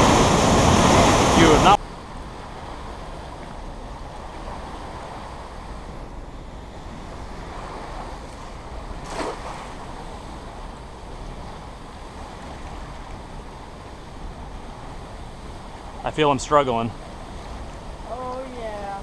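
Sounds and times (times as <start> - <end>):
water rushing from spillway: 0.0 - 5.9, 7.0 - 19.0.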